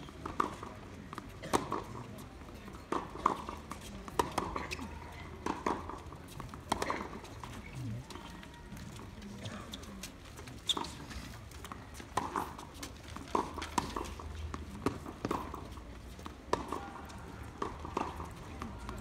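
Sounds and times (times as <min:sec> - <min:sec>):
tennis balls struck and bouncing: 0:00.0 - 0:08.4, 0:10.7 - 0:19.0.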